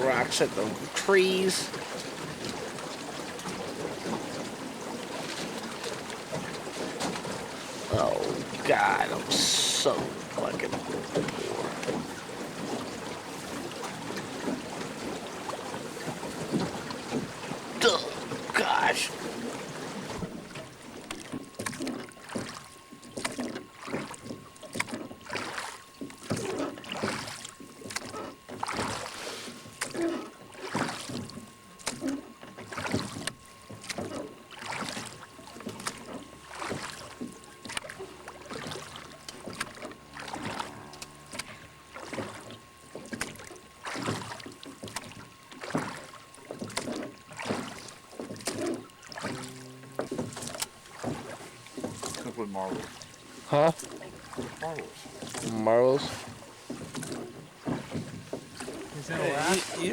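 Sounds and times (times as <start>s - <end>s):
water splashing against boat hull: 0.0s - 59.9s.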